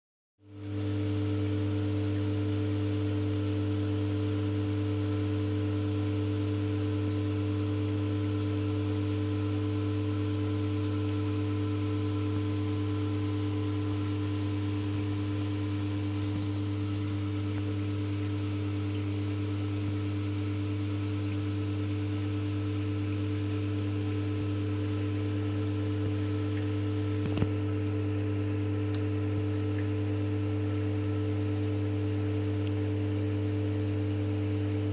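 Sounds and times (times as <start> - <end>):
air pump humming: 0.5 - 34.9.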